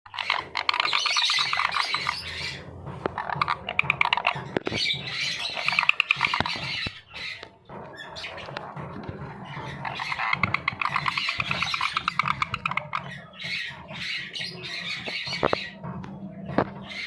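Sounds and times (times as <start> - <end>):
parrot chattering and squawking: 0.1 - 17.0.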